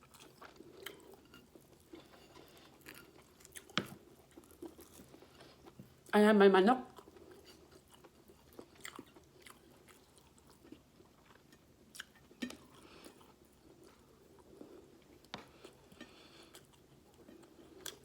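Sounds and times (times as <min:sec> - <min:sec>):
person chewing food: 0:00.0 - 0:06.1, 0:07.0 - 0:18.0.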